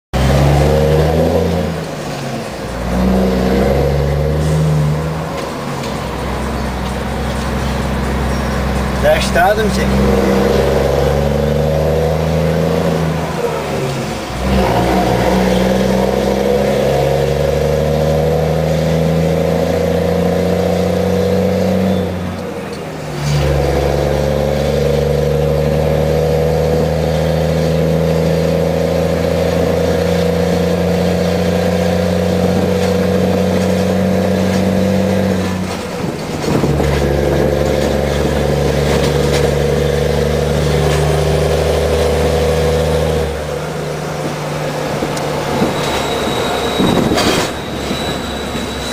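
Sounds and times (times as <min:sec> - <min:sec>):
truck diesel engine from inside cab: 0:00.1 - 0:48.9.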